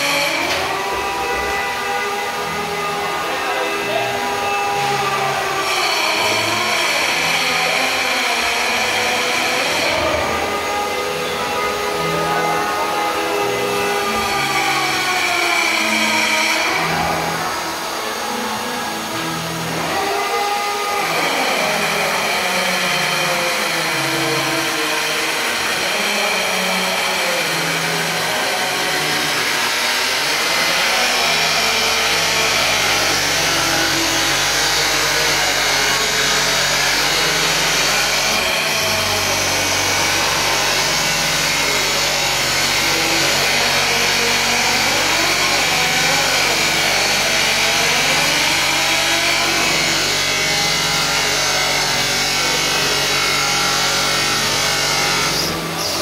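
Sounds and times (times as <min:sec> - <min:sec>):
stone-cutting machine grinding: 0:00.0 - 0:56.0.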